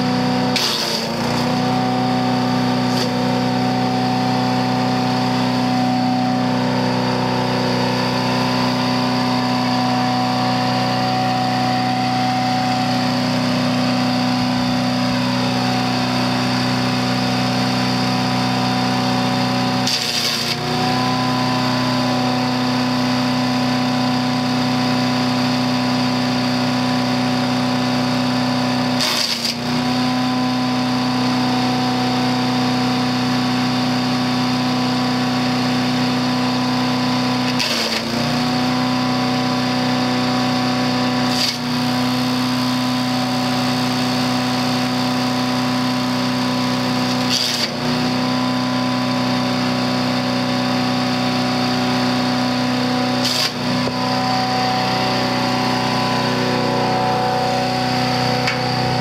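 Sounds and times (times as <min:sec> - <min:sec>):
chipper engine running: 0:00.0 - 0:59.0.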